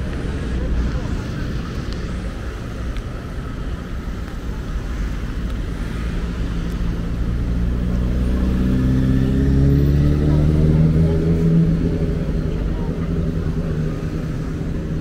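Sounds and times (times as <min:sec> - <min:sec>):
low traffic rumble: 0:00.0 - 0:15.0
vehicle engine approaching: 0:00.0 - 0:15.0.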